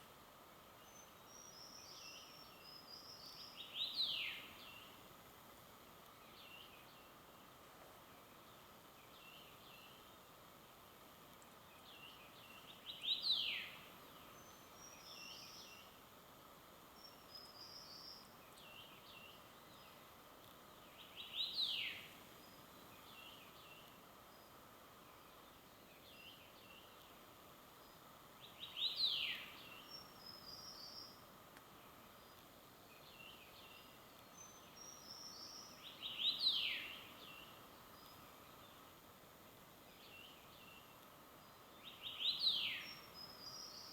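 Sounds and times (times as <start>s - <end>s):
faint steady hiss: 0.0s - 43.9s.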